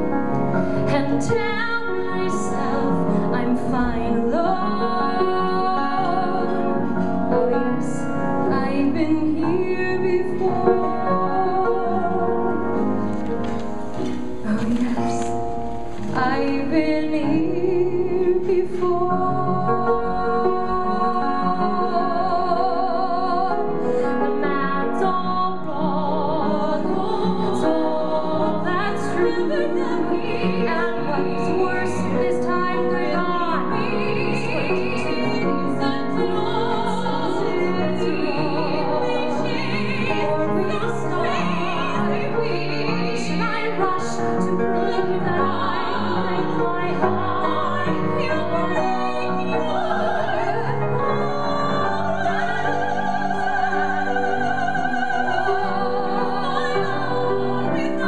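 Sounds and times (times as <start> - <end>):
piano accompaniment: 0.0 - 58.0
women singing a duet: 0.6 - 13.2, 14.2 - 58.0.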